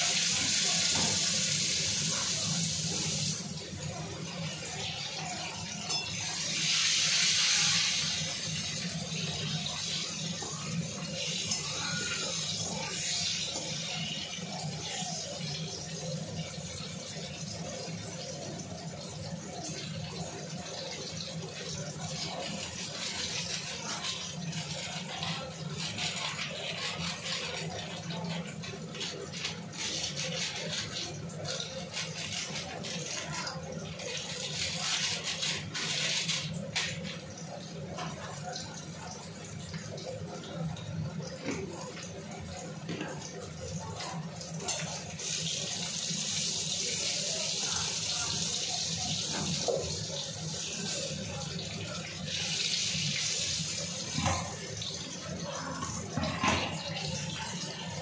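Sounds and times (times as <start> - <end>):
potatoes sizzling in hot oil: 0.0 - 38.2, 44.6 - 55.4.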